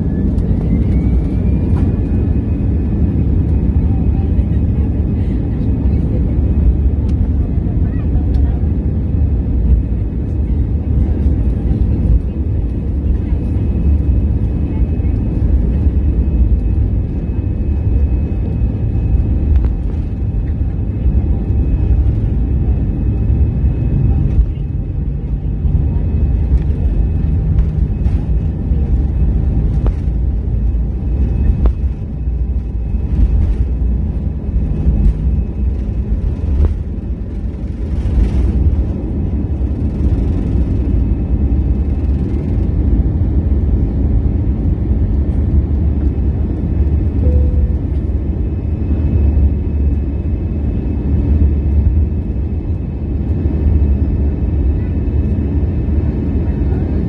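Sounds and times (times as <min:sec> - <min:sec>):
engine fan whine: 0:00.0 - 0:57.0
jet engine rumble: 0:00.0 - 0:57.0.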